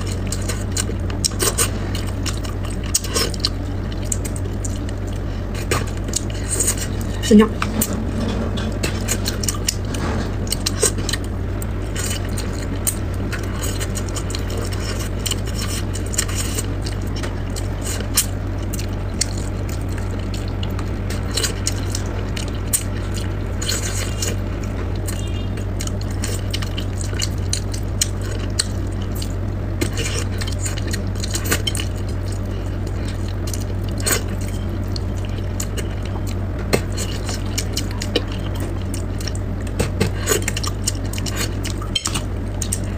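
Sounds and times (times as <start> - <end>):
steady low hum: 0.0 - 42.9
wet chewing sounds: 0.0 - 42.9.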